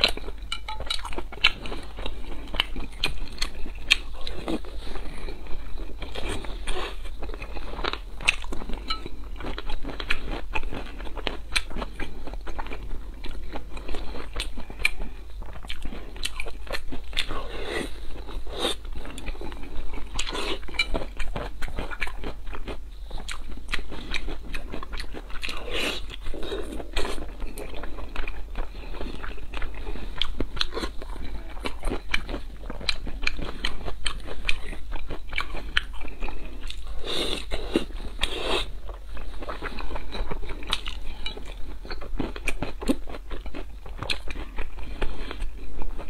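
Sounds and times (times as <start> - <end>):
person chewing: 0.0 - 46.0.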